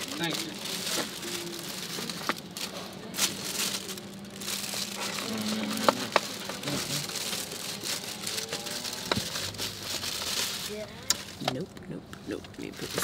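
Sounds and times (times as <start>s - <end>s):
paper bag crinkling: 0.0s - 11.4s.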